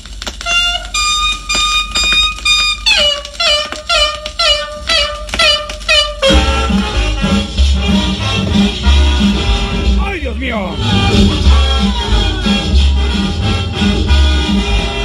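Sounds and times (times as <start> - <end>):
latin dance band with bass: 0.3 - 15.0.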